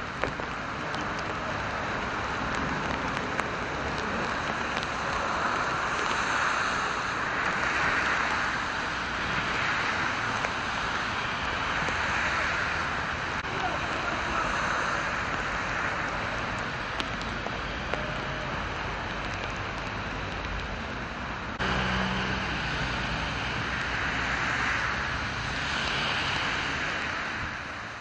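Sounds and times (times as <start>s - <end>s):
heavy rain on streets: 0.0s - 28.0s
traffic on wet roads: 0.0s - 28.0s.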